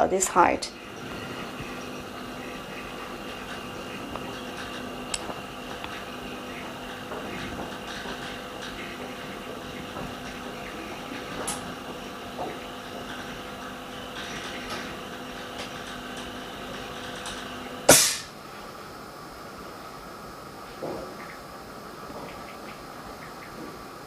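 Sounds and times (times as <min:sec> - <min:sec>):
electrical machine hum: 0:00.0 - 0:24.0.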